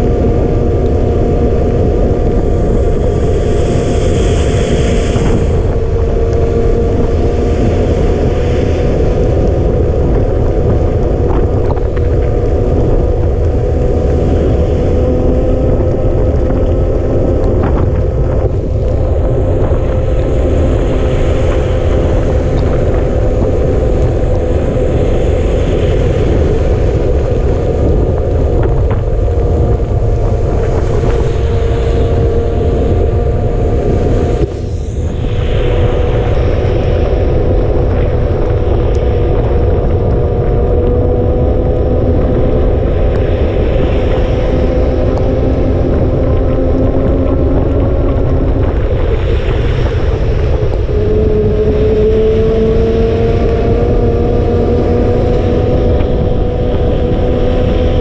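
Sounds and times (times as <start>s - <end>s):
steady wavering whine: 0.0s - 58.0s
wind buffeting microphone: 0.0s - 58.0s.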